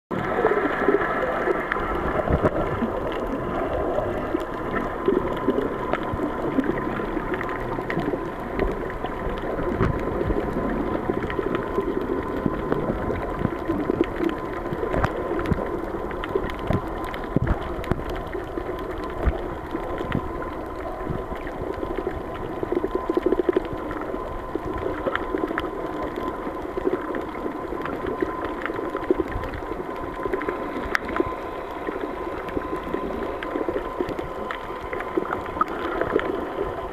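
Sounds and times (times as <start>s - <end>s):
muffled underwater noise: 0.1s - 36.9s
small crackles: 0.1s - 36.9s.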